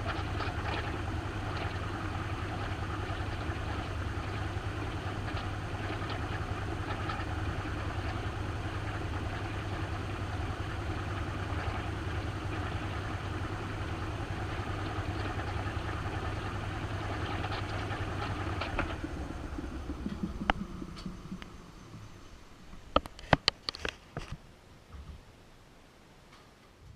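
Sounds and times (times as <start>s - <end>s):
washing machine humming: 0.0s - 23.1s.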